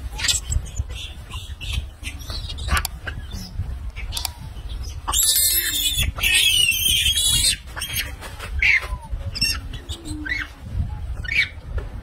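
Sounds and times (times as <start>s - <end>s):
monkeys squealing: 0.0s - 10.6s, 11.2s - 11.6s
high-pitched monkey shriek: 0.1s - 4.2s, 4.8s - 10.5s, 11.2s - 11.6s.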